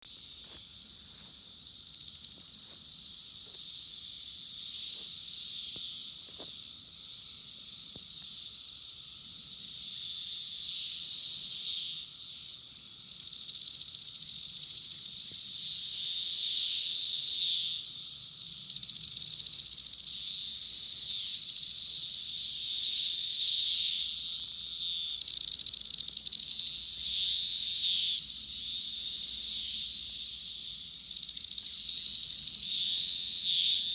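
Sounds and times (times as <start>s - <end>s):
cicadas buzzing: 0.0s - 33.9s.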